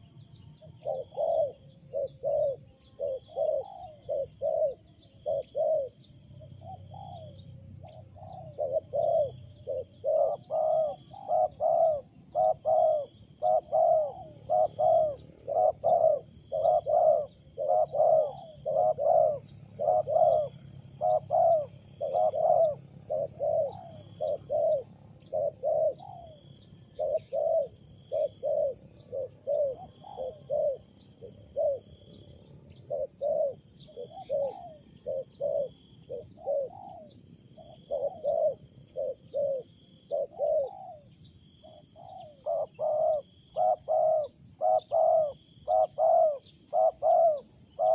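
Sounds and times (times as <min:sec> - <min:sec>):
dove cooing: 0:00.0 - 0:47.9
faint bird chirps: 0:00.0 - 0:47.9.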